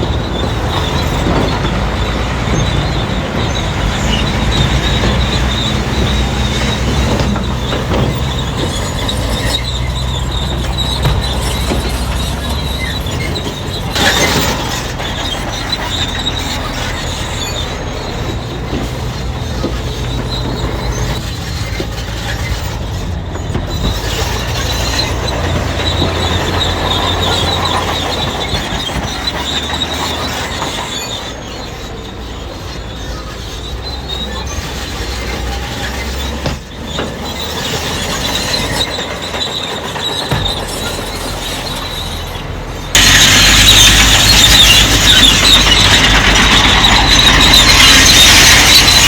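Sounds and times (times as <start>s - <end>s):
diesel engine under load: 0.0s - 49.0s
steel tracks squealing: 0.0s - 49.0s.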